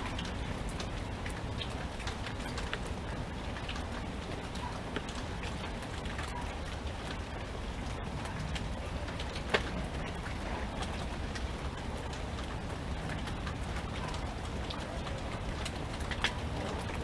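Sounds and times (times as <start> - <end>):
raindrops tapping close by: 0.0 - 17.0
steady rain: 0.0 - 17.0.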